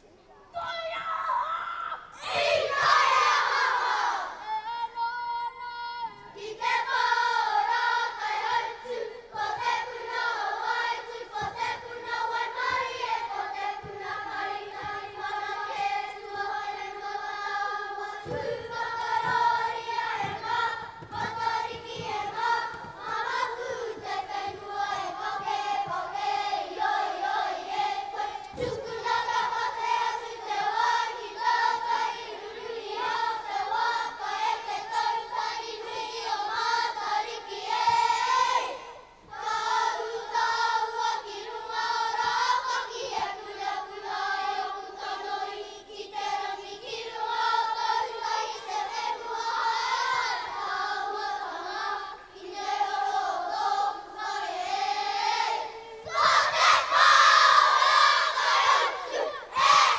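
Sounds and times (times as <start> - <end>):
children singing in unison: 2.2 - 5.0, 6.1 - 59.9.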